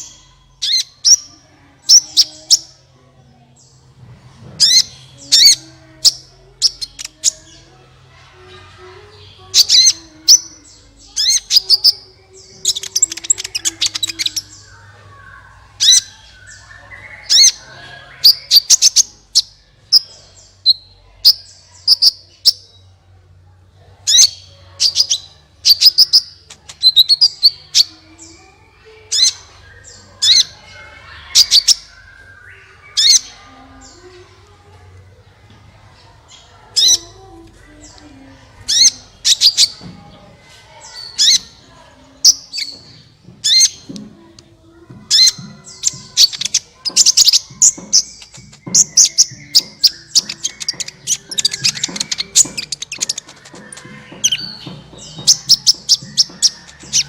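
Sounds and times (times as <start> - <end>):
bird high-pitched chirps: 0.0 - 2.8, 4.6 - 7.7, 9.1 - 22.8, 24.0 - 34.1, 36.3 - 37.2, 37.8 - 39.9, 40.7 - 41.6, 42.2 - 44.0, 44.8 - 57.0.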